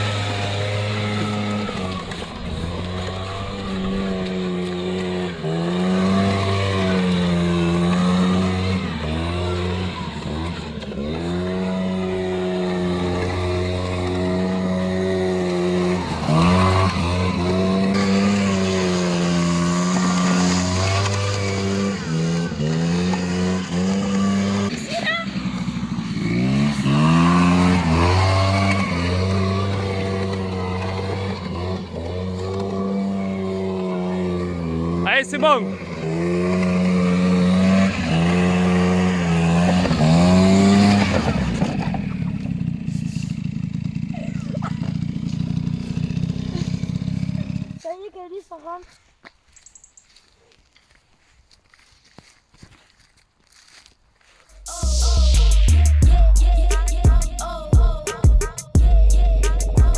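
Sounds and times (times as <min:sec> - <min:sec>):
motorbike engine at high revs: 0:00.0 - 0:49.0, 0:54.5 - 0:59.9.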